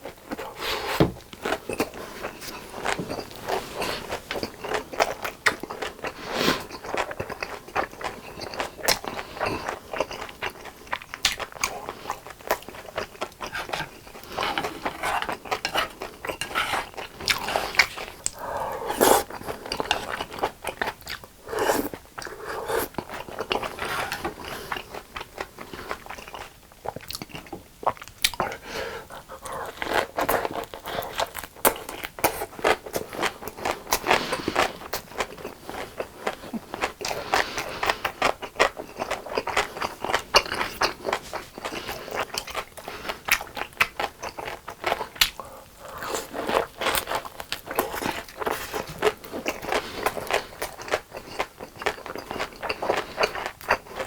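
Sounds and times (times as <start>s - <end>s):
chewing with wet smacks and crunches: 1.2s - 54.0s.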